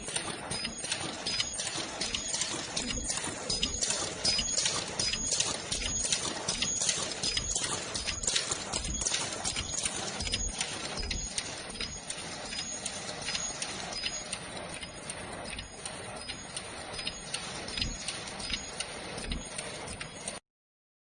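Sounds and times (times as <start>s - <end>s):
machine clacking: 0.0s - 20.4s.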